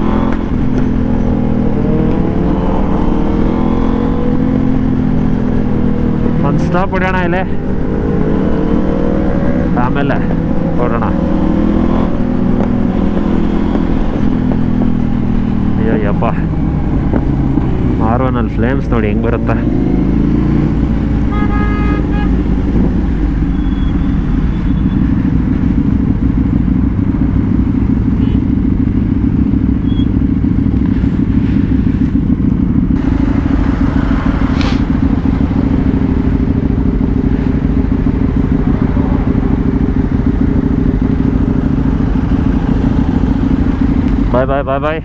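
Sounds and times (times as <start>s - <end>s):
motorcycle engines droning: 0.0s - 45.0s.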